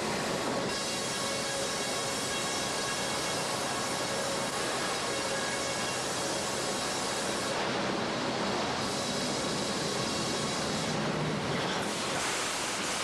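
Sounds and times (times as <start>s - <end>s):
sawmill machinery running: 0.0s - 13.0s.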